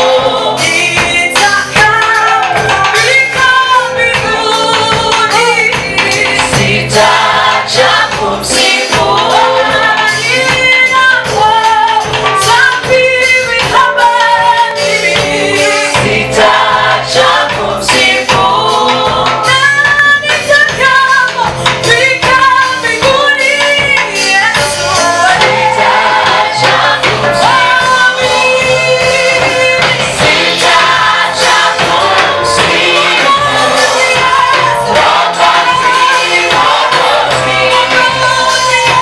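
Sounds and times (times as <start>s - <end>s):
gospel choir singing: 0.0s - 39.0s
instrumental backing with beat: 0.0s - 39.0s.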